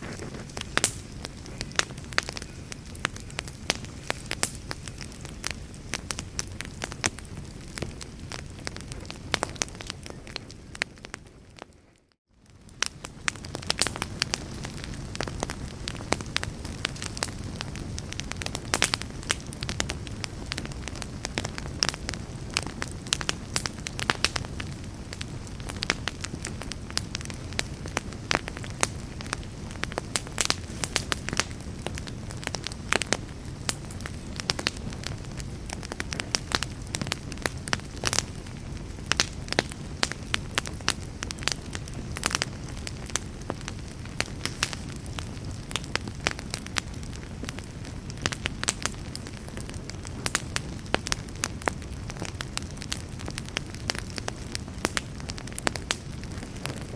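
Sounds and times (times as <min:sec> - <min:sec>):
campfire crackling and popping: 0:00.0 - 0:56.9
low rumble of flames: 0:00.0 - 0:56.9.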